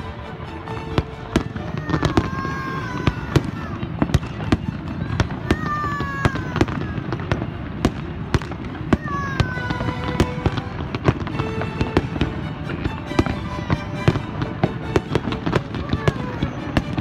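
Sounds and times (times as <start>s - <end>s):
fireworks bangs and crackles: 0.0s - 17.0s
fireworks rumble: 0.0s - 17.0s.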